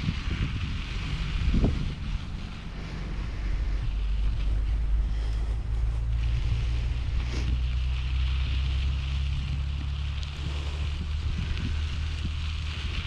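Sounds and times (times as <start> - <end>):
tyre and road noise: 0.0 - 13.0
wind buffeting microphone: 0.0 - 13.0.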